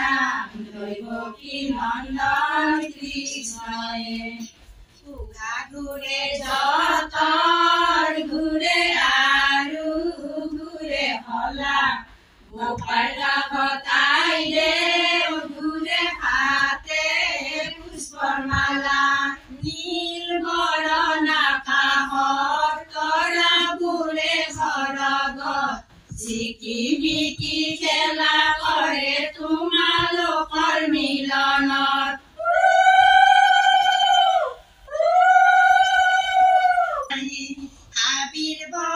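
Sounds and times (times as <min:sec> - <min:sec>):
women singing together: 0:00.0 - 0:38.9.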